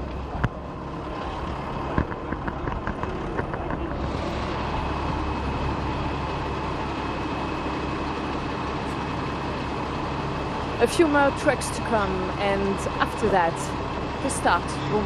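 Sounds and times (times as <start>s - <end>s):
diesel truck engines running: 0.0s - 15.0s.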